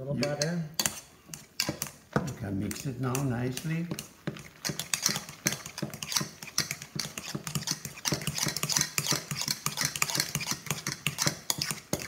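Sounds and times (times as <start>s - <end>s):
utensil mashing in pot: 0.0s - 12.0s.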